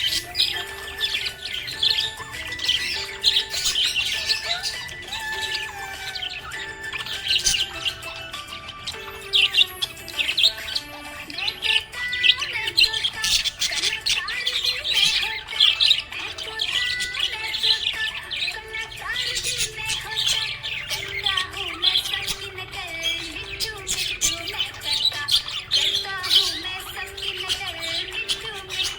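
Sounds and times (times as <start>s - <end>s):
background music: 0.0s - 28.9s
budgies chirping: 0.0s - 28.9s.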